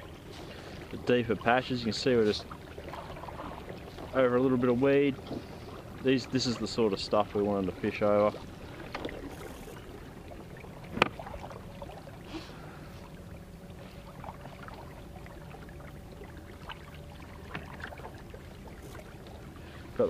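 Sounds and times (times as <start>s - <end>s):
faint motor whine: 0.0s - 20.0s.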